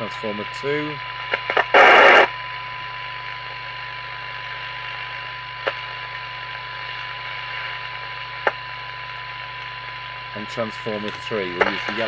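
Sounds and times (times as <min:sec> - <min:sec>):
hiss and mains hum: 0:00.0 - 0:12.0.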